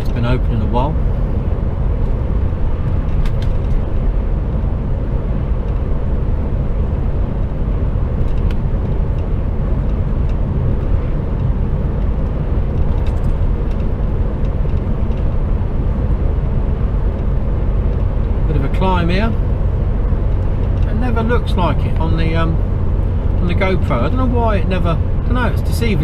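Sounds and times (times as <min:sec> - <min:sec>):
lorry engine and road noise: 0:00.0 - 0:26.0.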